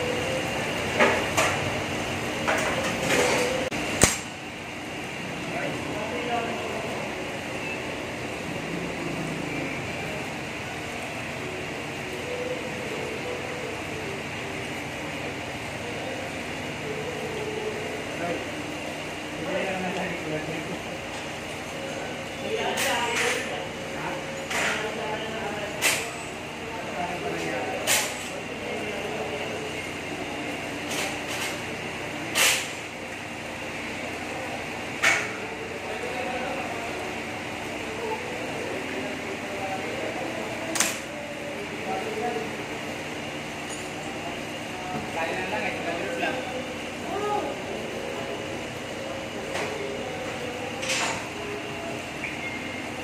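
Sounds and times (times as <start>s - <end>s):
fan-like workshop hum: 0.0s - 53.0s.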